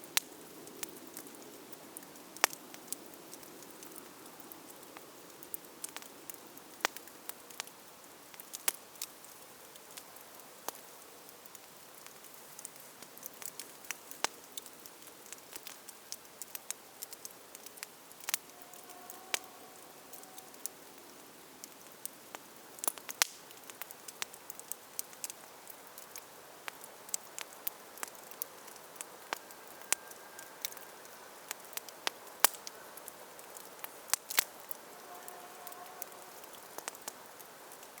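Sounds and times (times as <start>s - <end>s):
campfire crackling and popping: 0.0s - 38.0s
soft steady hiss: 0.0s - 38.0s.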